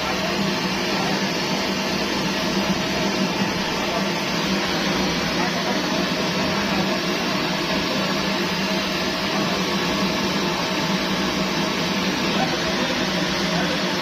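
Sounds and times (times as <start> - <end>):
pressure stove burner rushing: 0.0 - 14.0.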